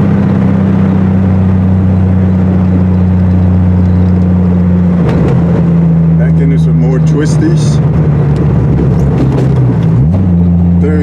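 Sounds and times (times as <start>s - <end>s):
car engine cruising steadily: 0.0s - 11.0s.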